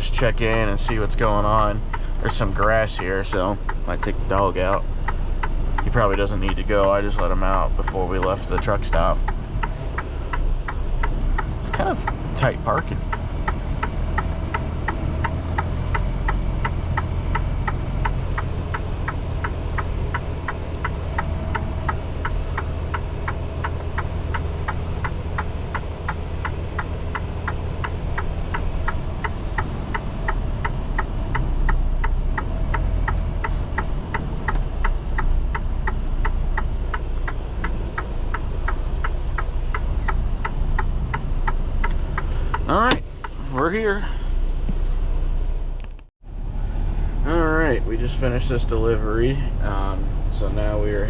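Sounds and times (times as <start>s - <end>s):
diesel engine low rumble: 0.0s - 51.0s
turn signal ticking: 0.0s - 51.0s.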